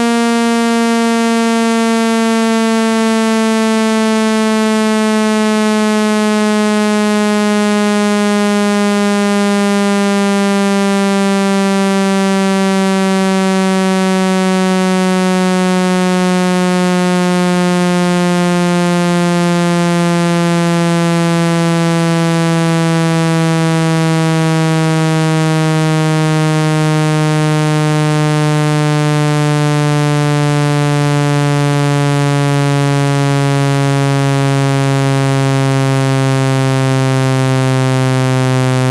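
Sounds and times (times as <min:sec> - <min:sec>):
buzzy low synthesized tone gliding down: 0:00.0 - 0:38.9.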